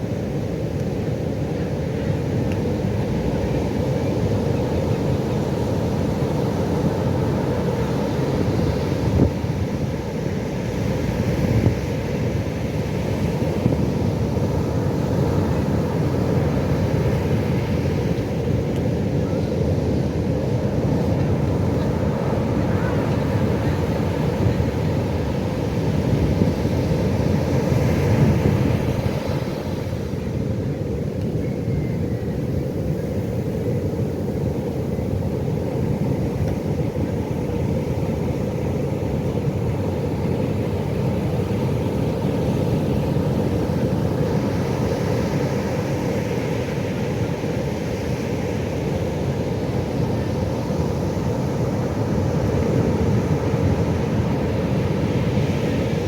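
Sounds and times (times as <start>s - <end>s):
ocean waves rumbling: 0.0s - 56.0s.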